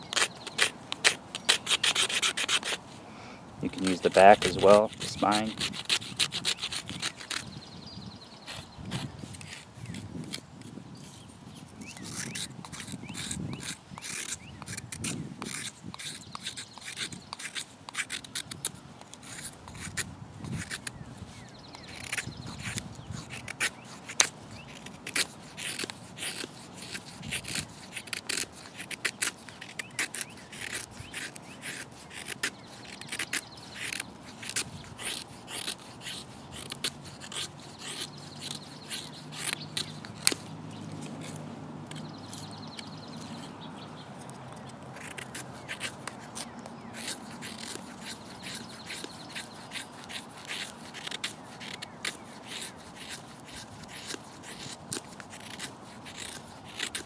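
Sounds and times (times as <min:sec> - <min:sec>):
knife shaving wooden stick: 0:00.0 - 0:03.0, 0:03.6 - 0:07.6, 0:08.4 - 0:43.6, 0:44.2 - 0:57.0.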